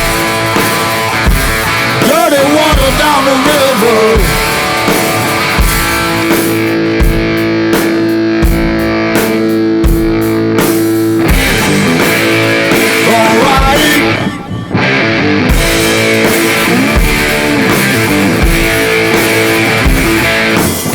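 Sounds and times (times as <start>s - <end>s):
instrumental rock music: 0.0s - 20.9s.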